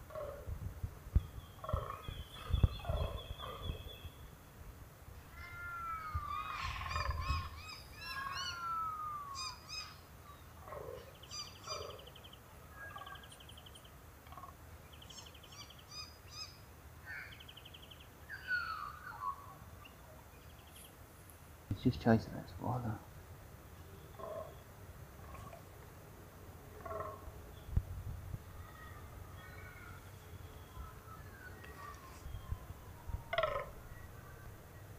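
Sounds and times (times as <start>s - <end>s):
birds calling: 1.1s - 4.3s, 5.2s - 21.0s, 23.8s - 26.0s, 26.6s - 34.9s.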